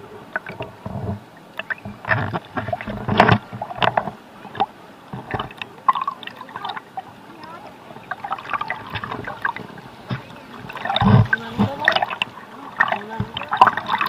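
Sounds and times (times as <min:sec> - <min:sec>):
seawater splashing and sloshing: 0:00.0 - 0:14.0.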